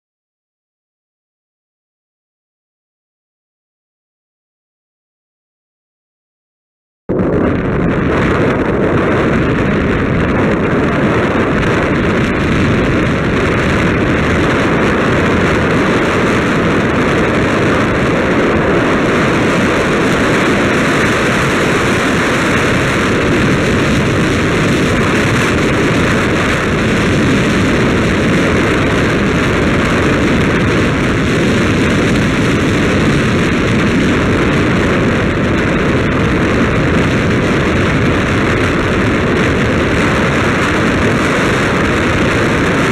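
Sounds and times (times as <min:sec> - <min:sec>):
wind buffeting microphone: 0:07.1 - 0:42.9.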